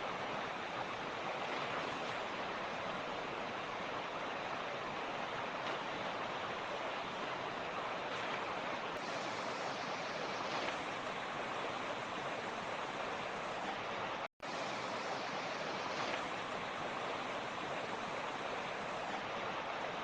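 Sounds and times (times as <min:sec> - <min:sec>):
creek flowing over stones: 0:00.0 - 0:20.0.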